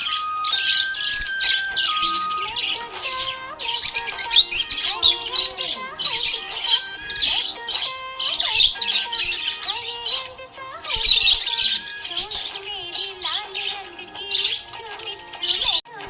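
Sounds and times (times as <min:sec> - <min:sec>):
budgerigars chirping: 0:00.0 - 0:15.8
background music: 0:00.0 - 0:16.0.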